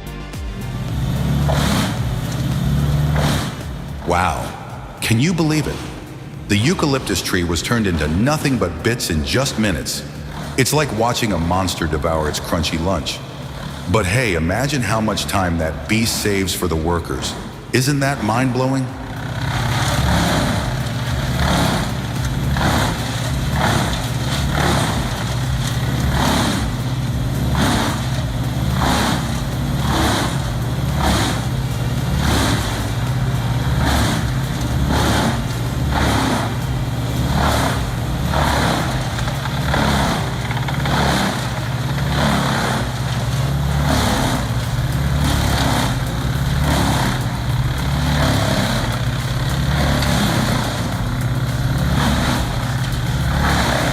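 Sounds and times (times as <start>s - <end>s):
heavy engine running: 0.0s - 53.9s.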